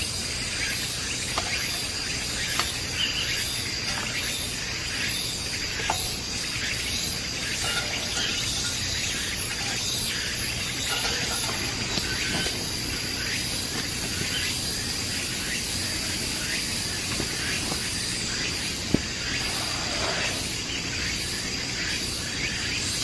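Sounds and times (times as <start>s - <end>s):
high insect drone: 0.0s - 23.0s
steady hissing noise: 0.0s - 23.0s.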